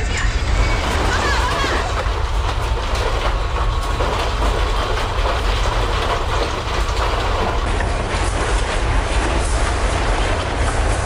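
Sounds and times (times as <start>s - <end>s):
earthquake low rumble: 0.0s - 11.0s
desks and objects rattling: 0.4s - 10.4s.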